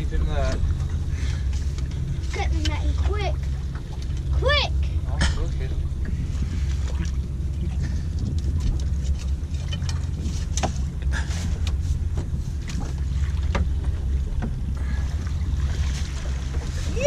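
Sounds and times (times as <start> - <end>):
short splashes and knocks: 0.0 - 17.0
water lapping at boat hull: 0.0 - 17.0
wind rumble on microphone: 0.0 - 17.0.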